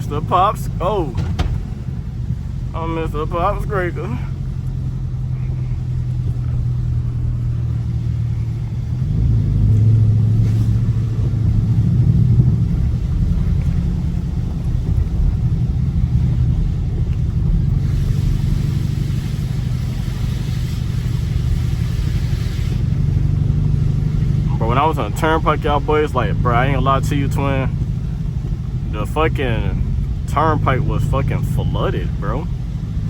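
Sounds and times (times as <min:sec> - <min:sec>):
car engine droning while driving: 0:00.0 - 0:33.0.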